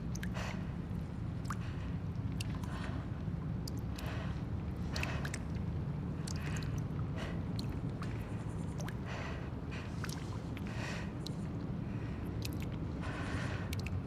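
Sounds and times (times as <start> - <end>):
drips: 0.0 - 14.0.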